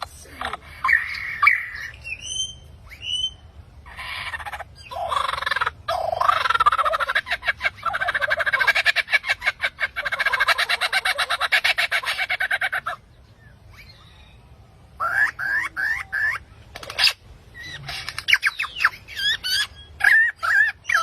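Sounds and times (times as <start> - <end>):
bird calling pulsed notes: 0.8 - 10.6, 11.2 - 21.0.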